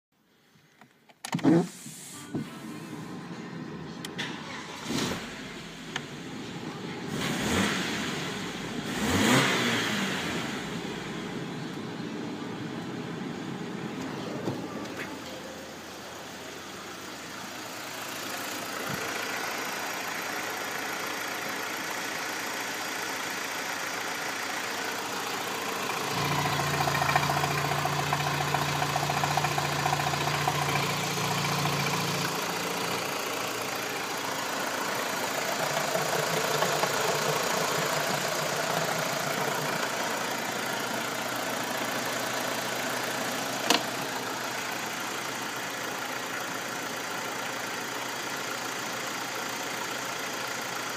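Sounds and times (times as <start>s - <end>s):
car engine revving and idling: 1.4s - 50.9s.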